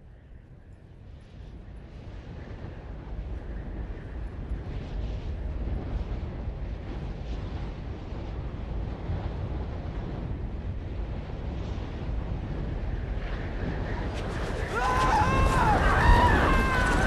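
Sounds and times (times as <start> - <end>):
wind rushing with deep rumble: 0.0 - 17.0.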